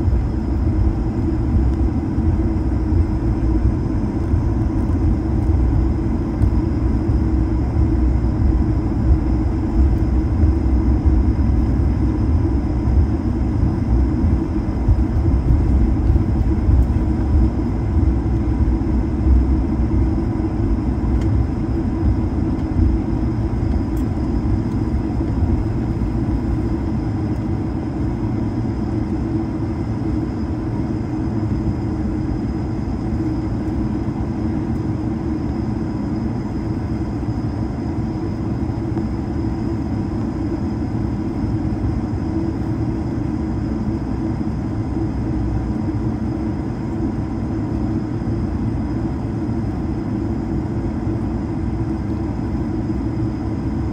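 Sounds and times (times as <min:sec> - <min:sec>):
rumble of wheels and idling engines: 0:00.0 - 0:53.9.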